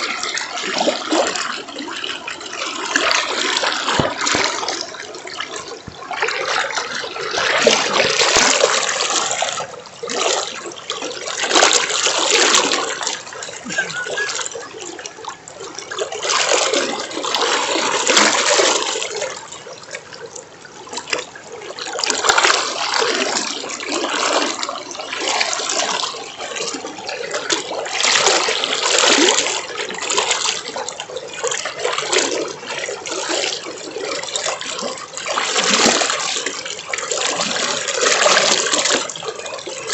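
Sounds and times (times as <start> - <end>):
river water rushing and splashing: 0.0 - 20.2, 21.8 - 39.9.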